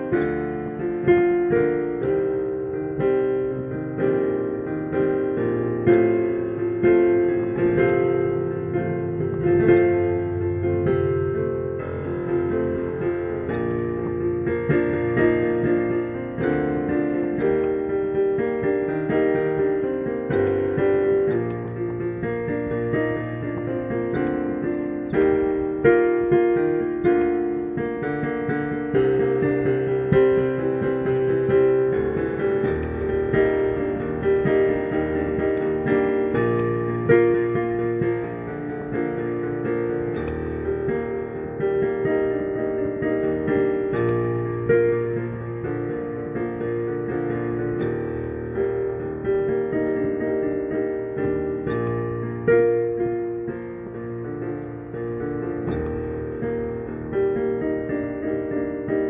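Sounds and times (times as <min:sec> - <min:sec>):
background piano music: 0:00.0 - 0:59.0.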